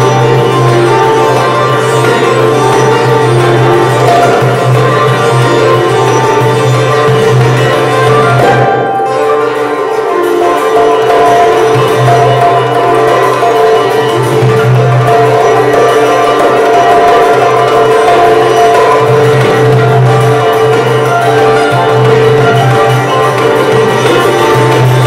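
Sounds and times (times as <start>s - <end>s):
hand drum rhythm: 0.0s - 25.0s
plucked koto notes: 0.0s - 25.0s
plucked sitar notes: 0.0s - 25.0s.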